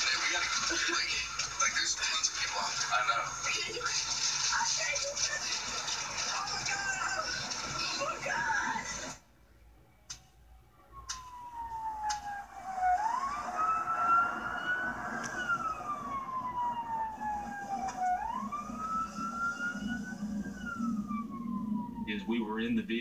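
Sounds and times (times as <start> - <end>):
siren wailing: 0.0 - 9.2, 10.2 - 23.0.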